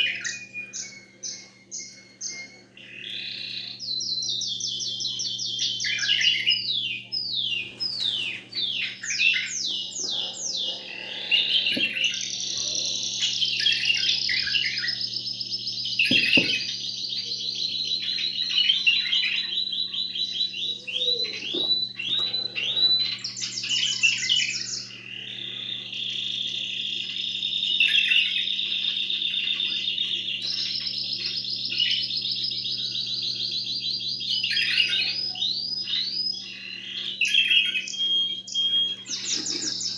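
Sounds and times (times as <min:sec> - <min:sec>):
canary singing: 0:00.0 - 0:39.9
faint steady hum: 0:00.0 - 0:39.9.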